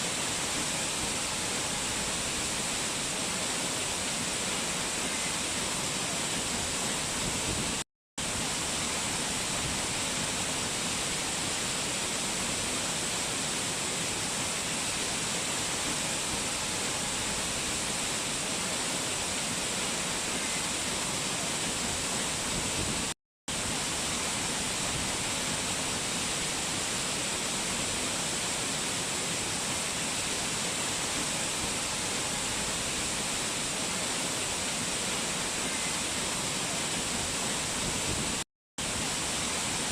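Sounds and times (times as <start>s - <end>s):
rushing mountain stream: 0.0s - 39.9s.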